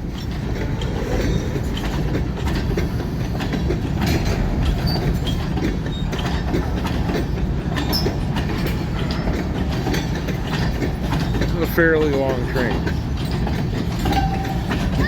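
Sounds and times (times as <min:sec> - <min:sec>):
train rumbling past: 0:00.0 - 0:15.0
wheels clanking over track: 0:00.0 - 0:15.0.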